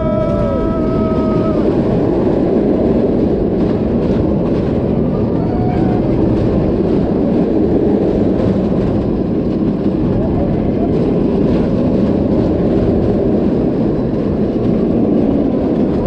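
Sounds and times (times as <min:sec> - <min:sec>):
roller coaster wheels on track: 0:00.0 - 0:16.0
wind rushing over microphone: 0:00.0 - 0:16.0.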